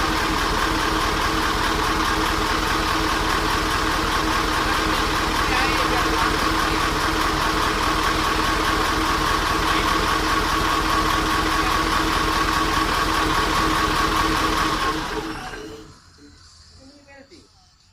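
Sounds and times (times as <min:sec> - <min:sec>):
diesel engine idling: 0:00.0 - 0:16.8
engine whine: 0:00.0 - 0:16.9.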